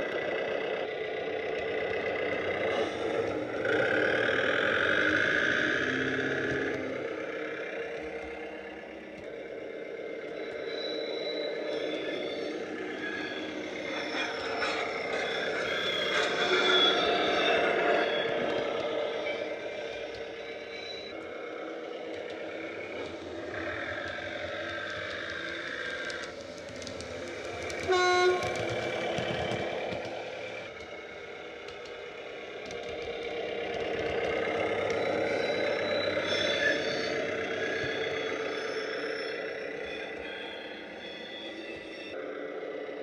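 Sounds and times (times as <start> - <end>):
railcar engine running: 0.0 - 43.0.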